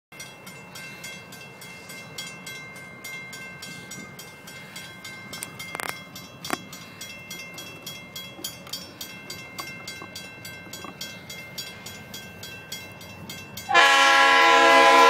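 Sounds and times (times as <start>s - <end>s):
crossing bell ringing: 0.1s - 15.0s
train rumbling: 0.2s - 15.0s.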